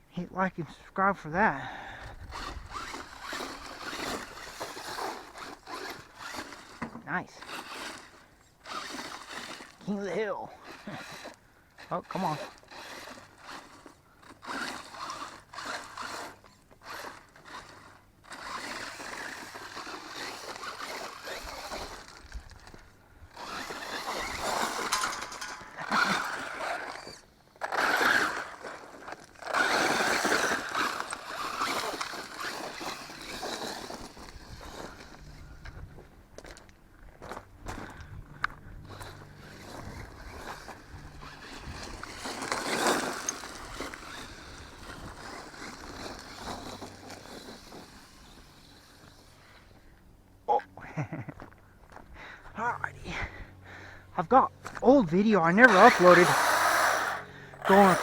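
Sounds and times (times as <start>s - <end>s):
rc truck motor revving: 1.3s - 49.8s, 54.2s - 58.0s.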